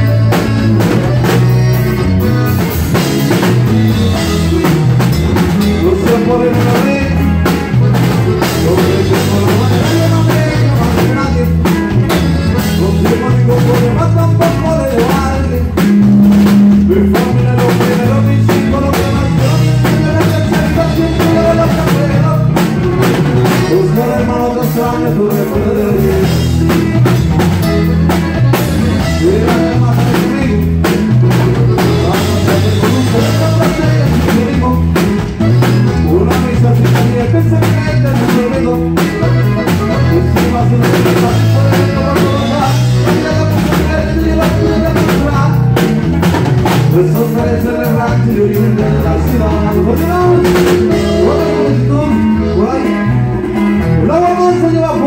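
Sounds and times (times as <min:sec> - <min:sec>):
drum beat: 0:00.0 - 0:52.0
bass line: 0:00.0 - 0:55.0
live band playing: 0:00.0 - 0:55.0.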